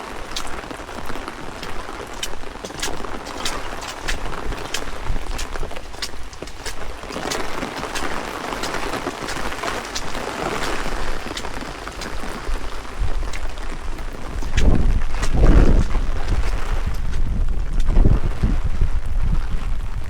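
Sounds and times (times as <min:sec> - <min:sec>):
raindrops ticking on microphone: 0:00.0 - 0:20.0
wind buffeting microphone: 0:00.0 - 0:20.0.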